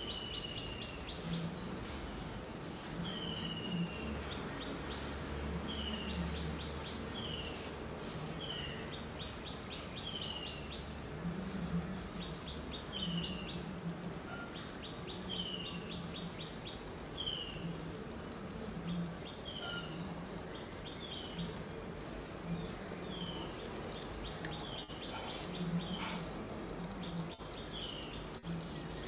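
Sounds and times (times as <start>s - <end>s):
outdoor background noise: 0.0s - 29.0s
thin high-pitched whine: 0.0s - 29.0s.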